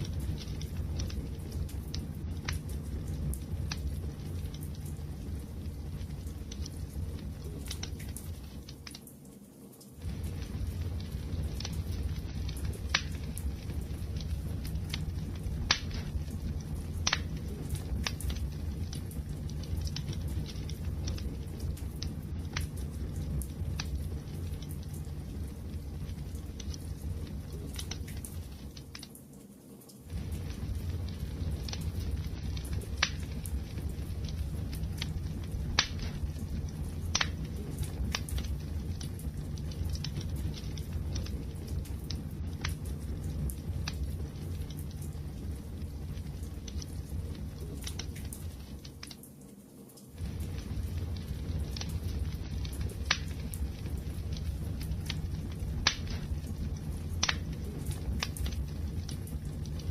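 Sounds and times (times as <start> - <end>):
low rumble of burning: 0.0 - 59.9
wood fire crackling: 0.0 - 59.9.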